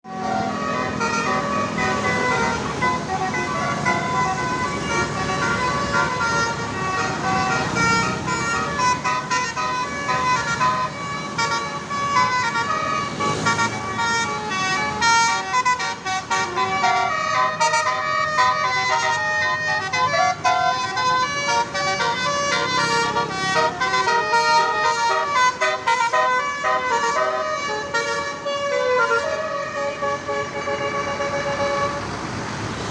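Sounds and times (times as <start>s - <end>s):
multi-tone air horn tune: 0.2s - 32.1s.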